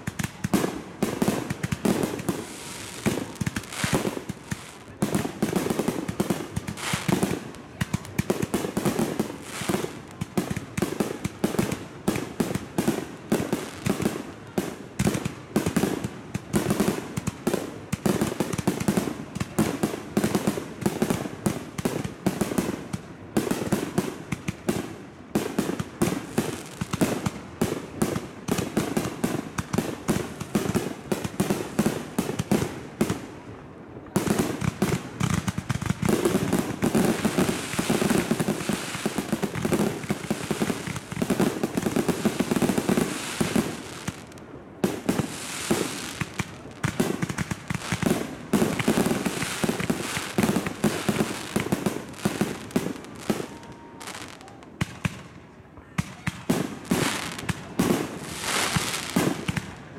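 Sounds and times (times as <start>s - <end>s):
fireworks bursting: 0.0s - 55.2s, 56.0s - 59.8s.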